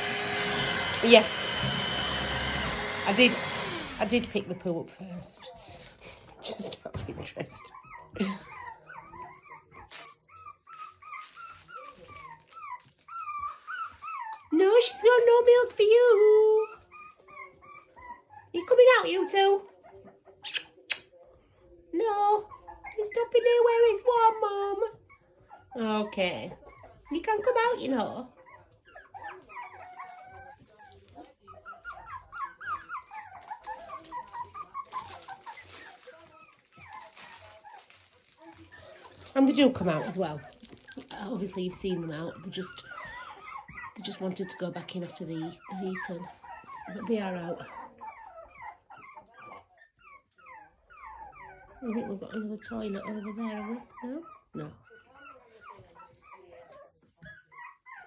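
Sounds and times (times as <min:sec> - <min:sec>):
puppies whimpering and squeaking: 0:00.0 - 0:58.0.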